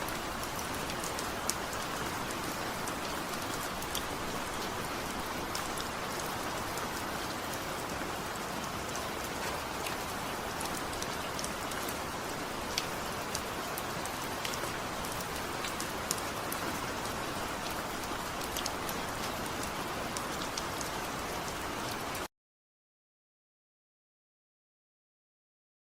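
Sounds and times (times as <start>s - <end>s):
heavy rain falling: 0.0s - 22.3s.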